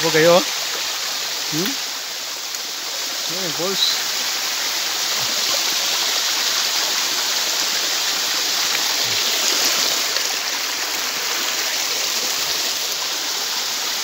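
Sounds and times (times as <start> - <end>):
waterfall flowing over rock: 0.0 - 14.0.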